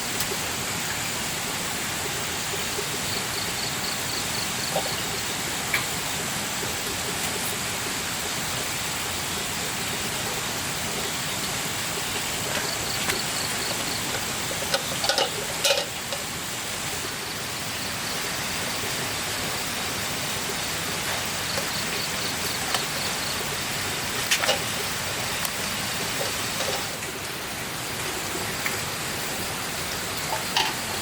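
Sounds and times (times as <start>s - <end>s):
rushing flowing water: 0.0s - 31.0s.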